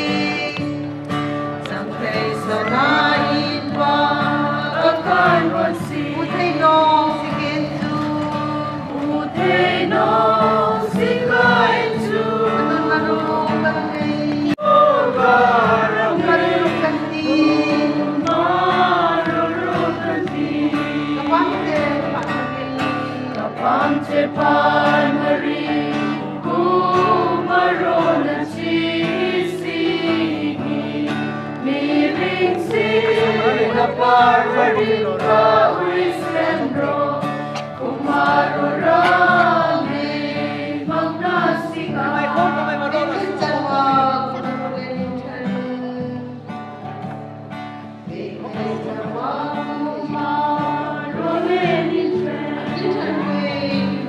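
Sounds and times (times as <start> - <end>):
group singing a hymn: 0.0 - 54.0.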